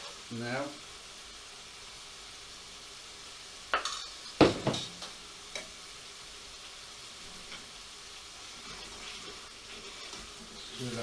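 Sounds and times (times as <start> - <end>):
sauce sizzling in a pan: 0.0 - 11.0.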